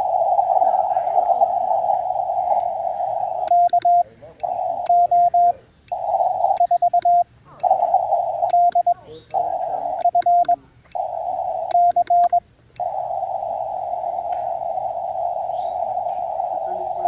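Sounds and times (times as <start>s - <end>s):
radio band hiss: 0.0s - 17.0s
morse code dits: 1.8s - 17.0s.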